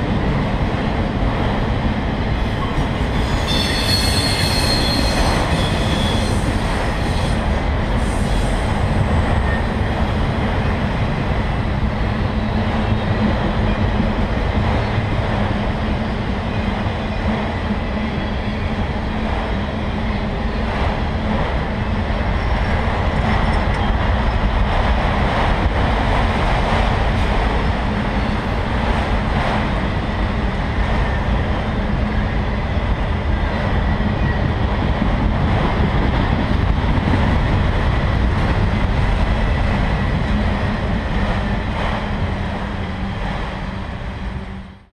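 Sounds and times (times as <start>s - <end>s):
train wheels rolling on track: 0.0s - 44.8s.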